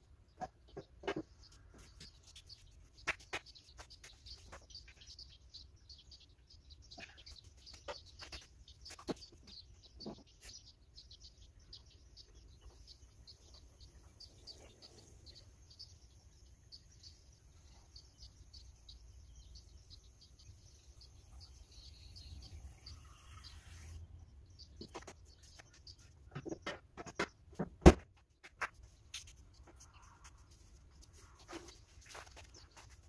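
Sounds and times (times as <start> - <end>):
small bird chirping: 0.0 - 27.6, 28.2 - 33.0.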